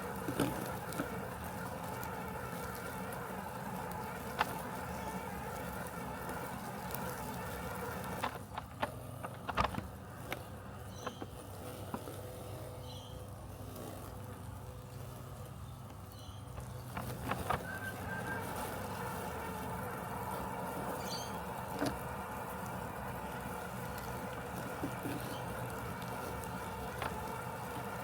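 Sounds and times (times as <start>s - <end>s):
robotic lawn mower humming: 0.0s - 28.0s.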